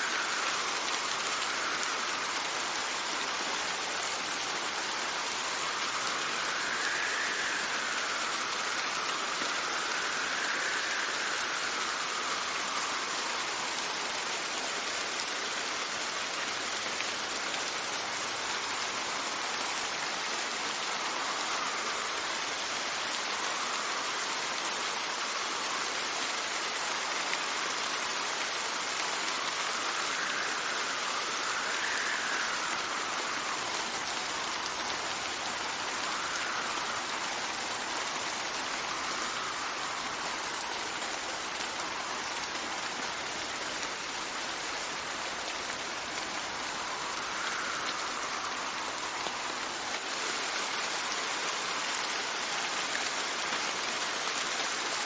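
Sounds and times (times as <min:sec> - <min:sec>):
steady rain falling: 0:00.0 - 0:55.0
wind gusts: 0:00.0 - 0:55.0.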